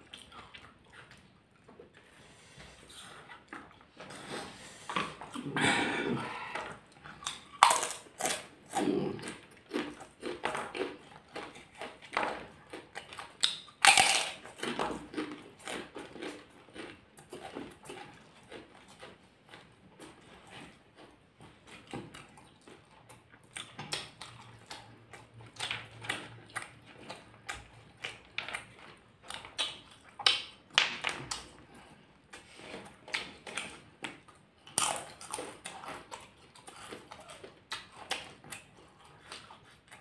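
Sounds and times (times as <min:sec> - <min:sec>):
people chewing and lip-smacking: 0:00.0 - 0:40.0.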